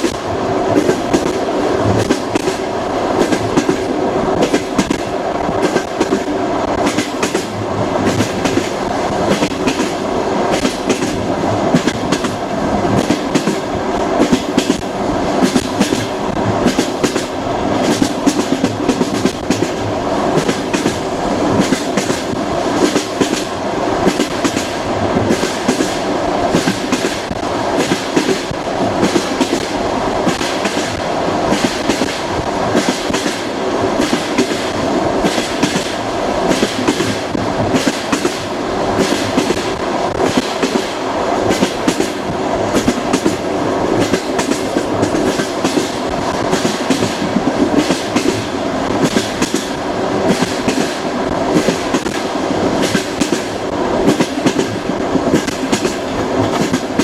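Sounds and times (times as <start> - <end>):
train rumble: 0.0 - 57.0
train wheels clattering over rail joints: 0.0 - 57.0.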